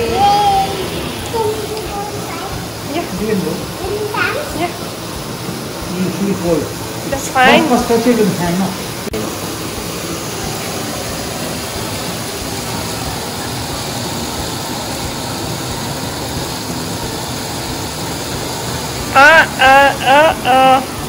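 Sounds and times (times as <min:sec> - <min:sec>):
foam machine spraying: 0:00.0 - 0:21.0.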